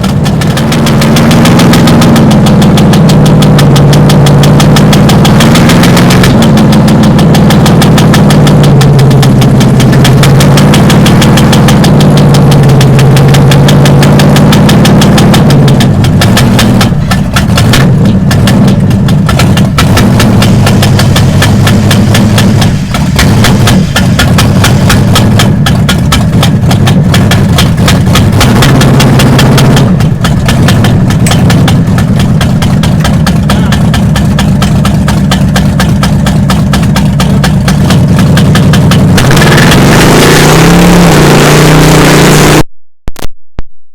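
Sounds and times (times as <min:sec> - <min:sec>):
loud truck engine running: 0:00.0 - 0:42.7.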